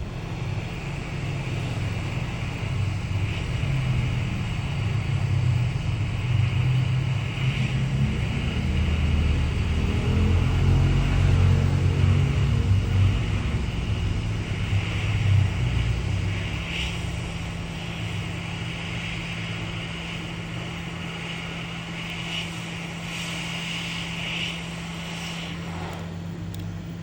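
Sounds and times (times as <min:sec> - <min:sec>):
hot air gun blowing: 0:00.0 - 0:26.6.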